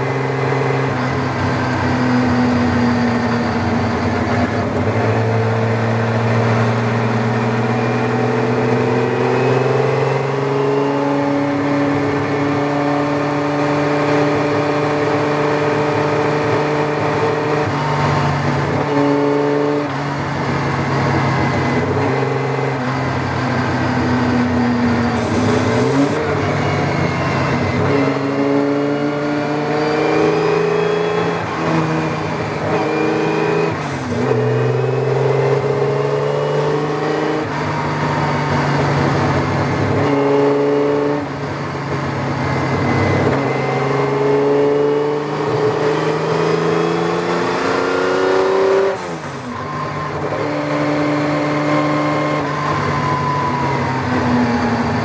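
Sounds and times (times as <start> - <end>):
racing car engine accelerating: 0.0 - 55.0.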